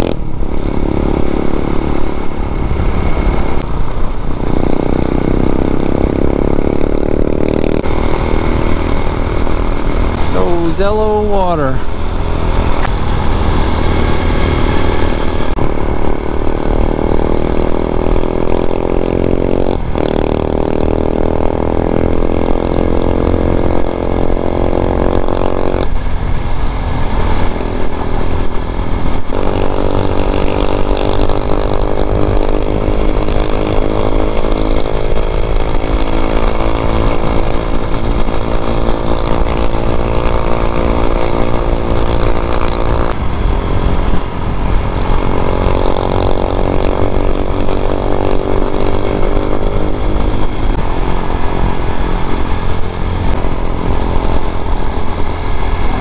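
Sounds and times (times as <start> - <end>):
motorcycle engine accelerating: 0.0 - 56.0
wind on microphone: 0.0 - 56.0.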